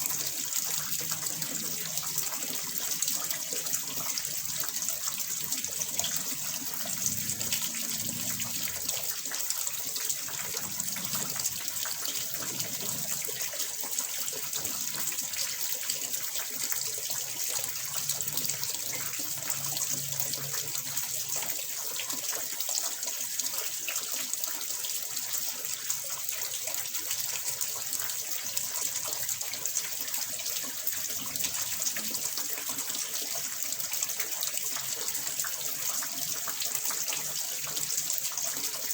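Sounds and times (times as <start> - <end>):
water pouring and splashing: 0.0 - 38.9.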